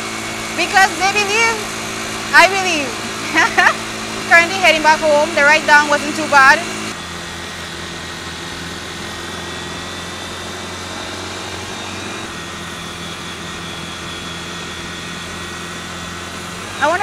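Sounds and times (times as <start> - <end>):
motorcycle engine hum: 0.0 - 17.0.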